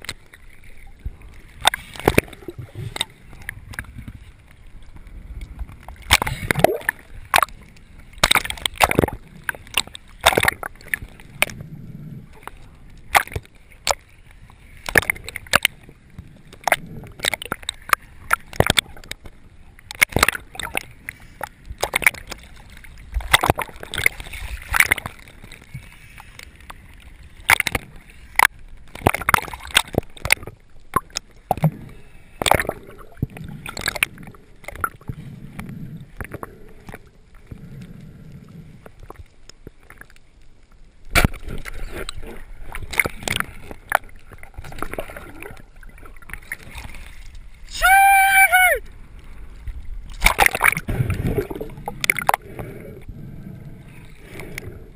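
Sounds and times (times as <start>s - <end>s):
water sloshing and splashing: 0.0s - 54.9s.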